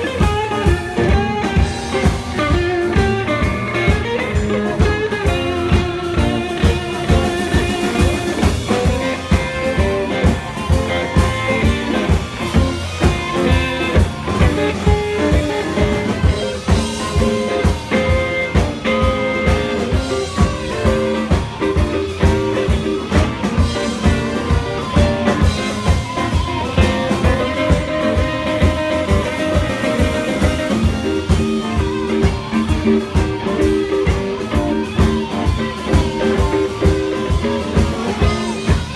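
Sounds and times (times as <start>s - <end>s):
blues-rock guitar: 0.0s - 38.9s
drum-kit beat: 0.0s - 38.9s.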